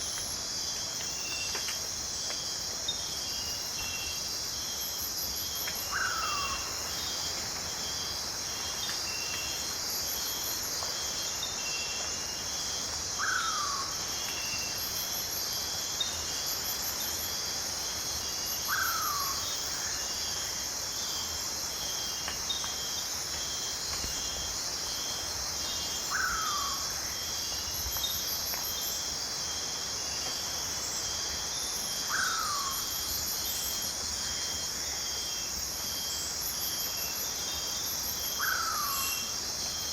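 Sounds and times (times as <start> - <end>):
insects trilling: 0.0 - 39.9
rapid pulsed insect chirps: 0.0 - 39.9.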